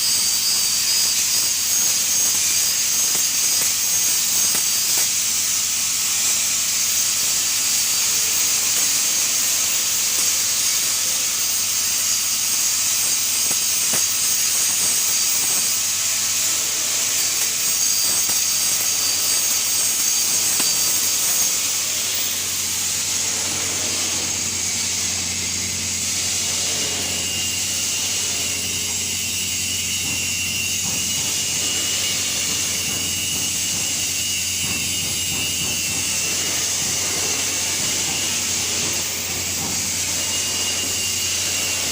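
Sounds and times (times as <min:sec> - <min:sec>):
welding arc hissing: 0:00.0 - 0:41.9.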